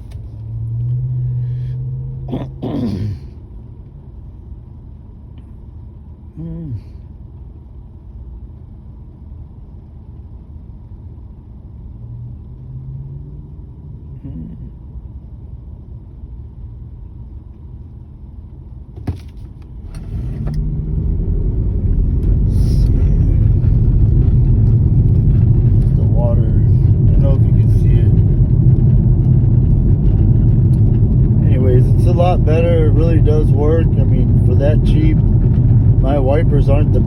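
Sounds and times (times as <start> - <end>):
car engine idling and revving: 0.0 - 37.0.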